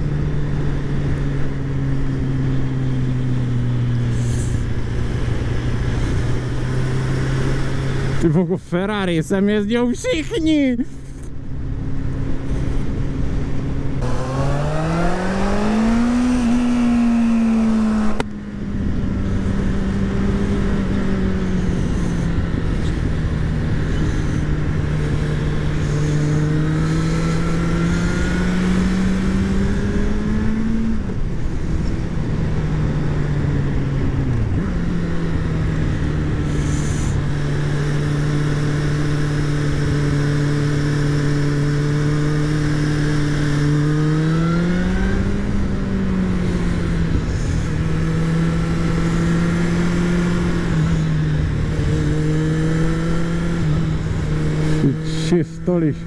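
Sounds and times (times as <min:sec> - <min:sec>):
motorcycle engine revving: 0:00.0 - 0:08.4, 0:11.6 - 0:56.0.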